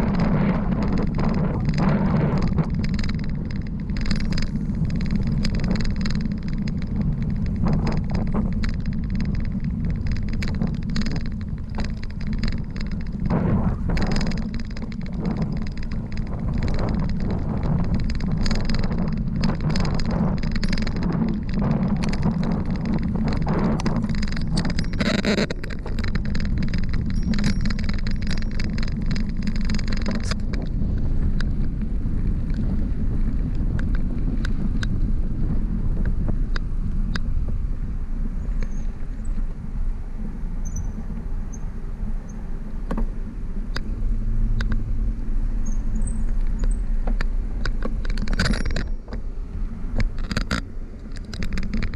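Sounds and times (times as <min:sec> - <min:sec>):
rattling clicks: 0:00.0 - 0:37.3, 0:42.3 - 0:51.9
wind and road noise: 0:00.0 - 0:51.9.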